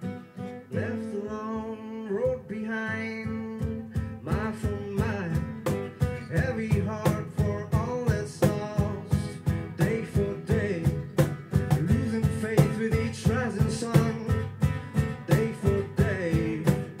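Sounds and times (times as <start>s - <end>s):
acoustic guitar strumming: 0.0s - 17.0s
man singing: 0.6s - 17.0s.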